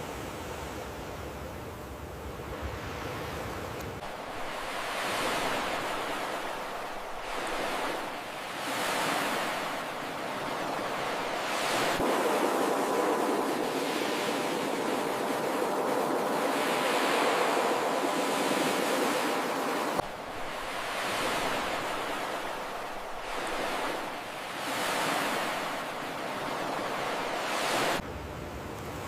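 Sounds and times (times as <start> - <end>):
waves breaking on shore: 2.2 - 29.0.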